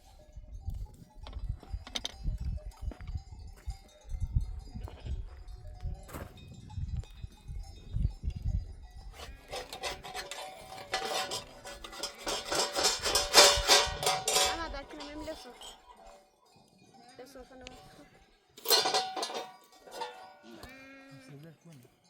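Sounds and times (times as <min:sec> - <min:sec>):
animal bells clinking: 0:00.0 - 0:22.0.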